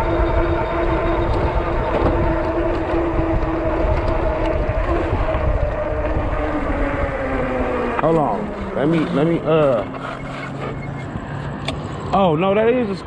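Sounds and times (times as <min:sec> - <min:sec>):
wind rumble on microphone: 0:00.0 - 0:12.2
bike motor whining hum: 0:00.0 - 0:13.0.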